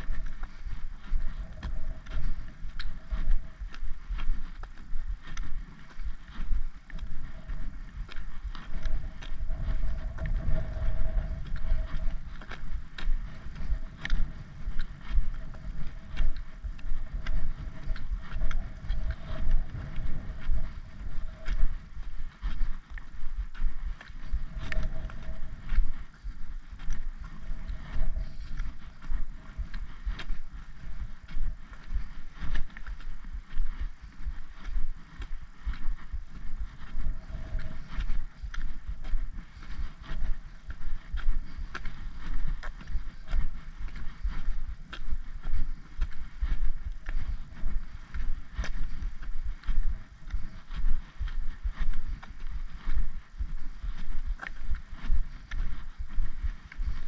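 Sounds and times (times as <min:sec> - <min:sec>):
footsteps on tarmac: 0:00.0 - 0:57.0
wind rumbling on microphone: 0:00.0 - 0:57.0.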